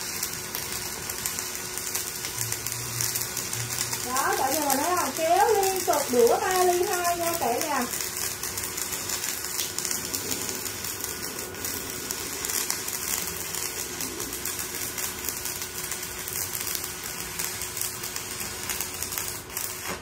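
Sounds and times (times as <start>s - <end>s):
welding arc crackling: 0.0s - 20.0s.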